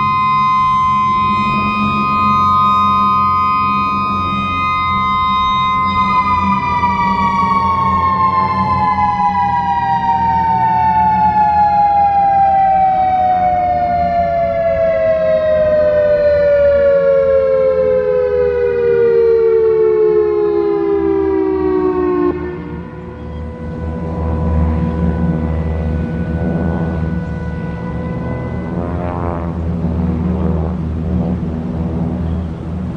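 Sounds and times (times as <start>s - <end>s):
warning siren winding down: 0.0s - 32.9s.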